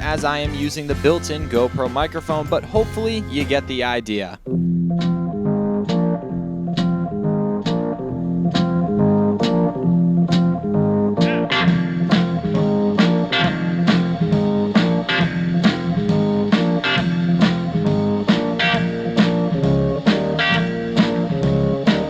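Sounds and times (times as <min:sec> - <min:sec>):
picked guitar notes: 0:00.0 - 0:22.0.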